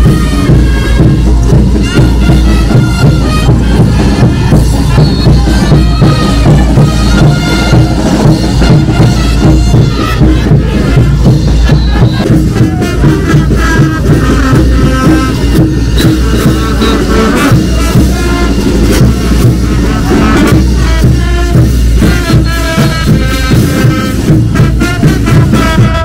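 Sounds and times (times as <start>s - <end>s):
dance music with drum beat: 0.0s - 26.0s.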